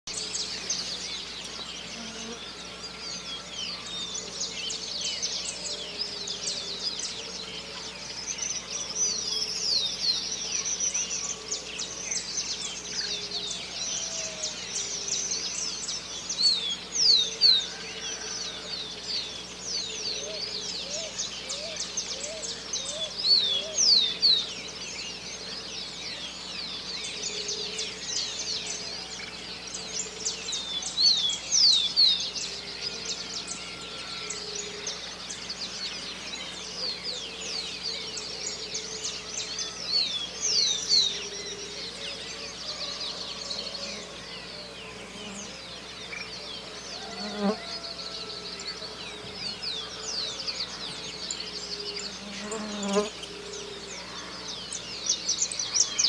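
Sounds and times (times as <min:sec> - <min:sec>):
birds chirping and whistling: 0:00.1 - 0:56.0
lower repeated bird calls: 0:00.1 - 0:56.0.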